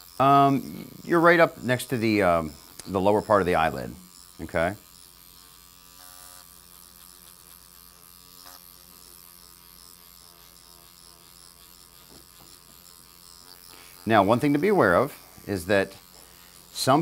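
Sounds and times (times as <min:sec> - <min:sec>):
microneedling pen motor buzz: 0:00.0 - 0:17.0.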